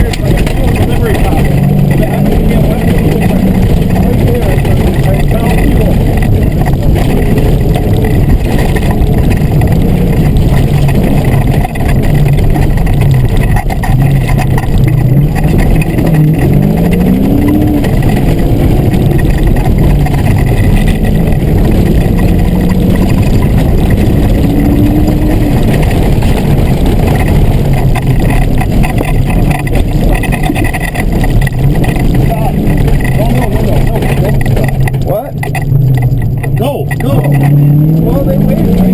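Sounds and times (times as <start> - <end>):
car engine revving: 0.0 - 38.9
road noise: 0.0 - 38.9.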